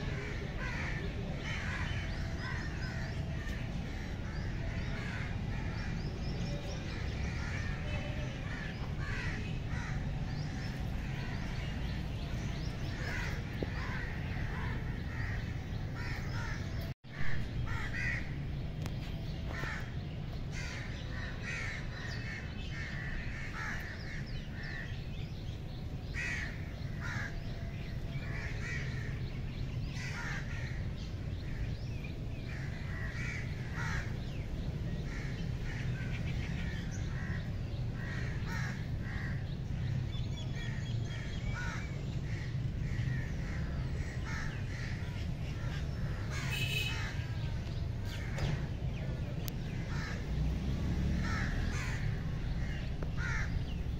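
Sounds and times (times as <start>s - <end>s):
birds cawing: 0.0s - 18.5s, 19.5s - 49.0s, 49.6s - 53.9s.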